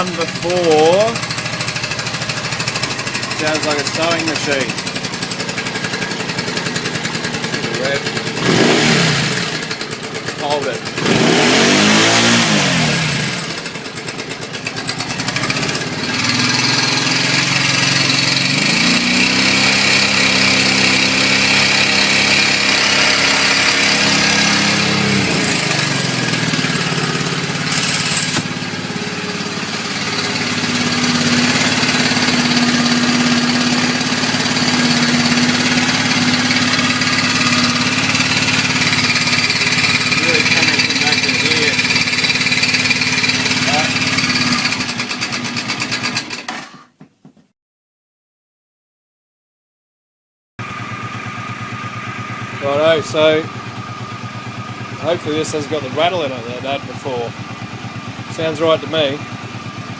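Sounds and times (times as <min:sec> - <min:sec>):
motorcycle engine idling and revving: 0:00.0 - 0:47.5, 0:50.6 - 0:59.9.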